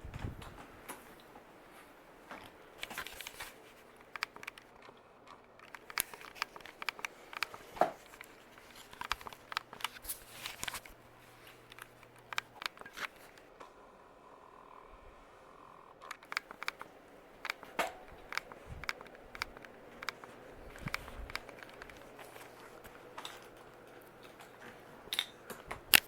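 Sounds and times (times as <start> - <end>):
crinkling and clicking handling noises: 0.0 - 13.8, 15.9 - 26.0
faint low hum: 0.0 - 26.0.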